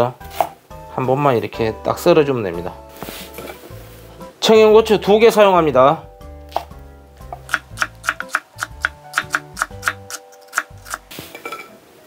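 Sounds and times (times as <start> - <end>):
background music: 0.0 - 11.8.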